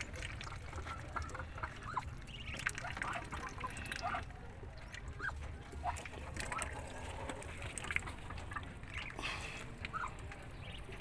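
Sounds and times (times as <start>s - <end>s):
ducklings peeping: 0.1s - 9.2s, 9.8s - 11.0s.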